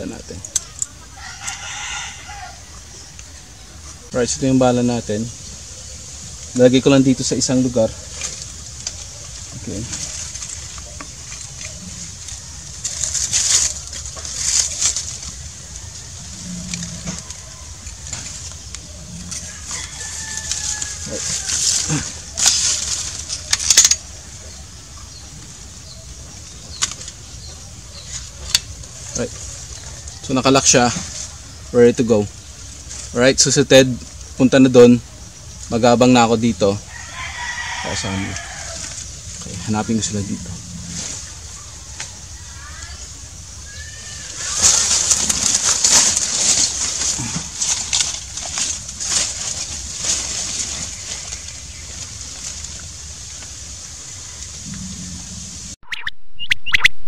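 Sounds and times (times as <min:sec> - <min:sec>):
rustling of leaves and cloth: 0:00.0 - 0:55.8
steady high hiss: 0:00.0 - 0:55.8.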